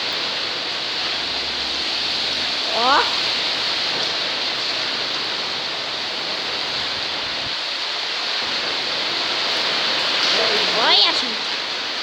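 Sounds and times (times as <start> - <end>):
heavy rain in wind: 0.0 - 12.0.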